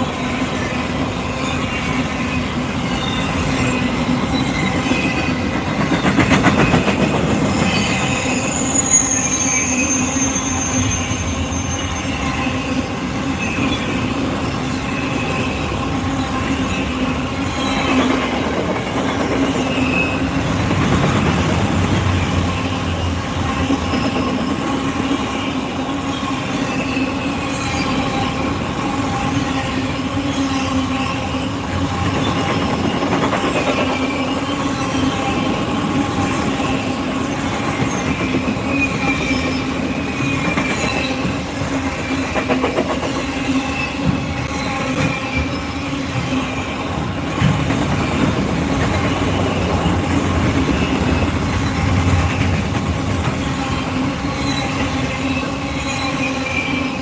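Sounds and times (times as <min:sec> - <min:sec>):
wheels squealing: 0:00.0 - 0:20.6, 0:22.1 - 0:57.0
train cars rumbling past: 0:00.0 - 0:57.0.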